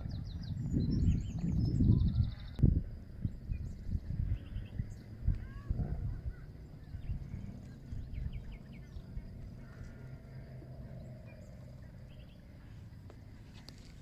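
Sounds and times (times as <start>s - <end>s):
birds chirping and trilling: 0.0s - 2.6s, 3.2s - 12.9s
steady low rumble: 0.0s - 14.0s.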